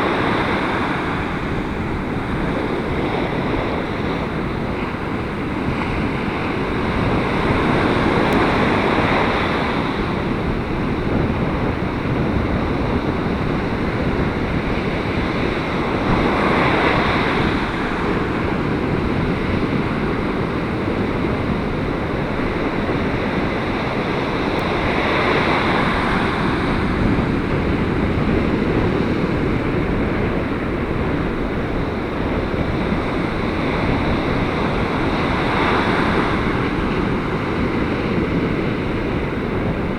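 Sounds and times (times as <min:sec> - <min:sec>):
gale-force wind: 0:00.0 - 0:39.9
ocean surf breaking: 0:00.0 - 0:39.9
wind buffeting microphone: 0:00.0 - 0:39.9.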